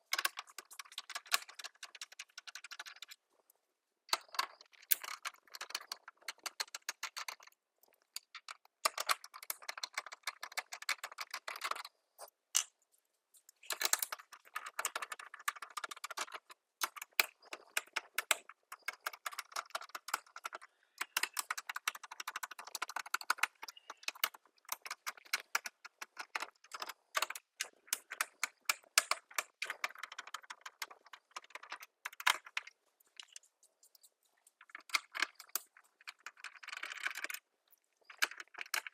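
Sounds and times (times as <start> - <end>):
plastic toy clicks and rattles: 0.1 - 3.2, 4.1 - 11.9, 13.6 - 37.4, 38.0 - 38.9.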